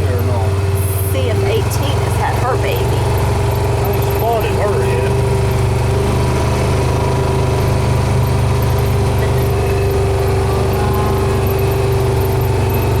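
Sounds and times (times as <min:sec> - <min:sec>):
vehicle engine running steadily: 0:00.0 - 0:13.0.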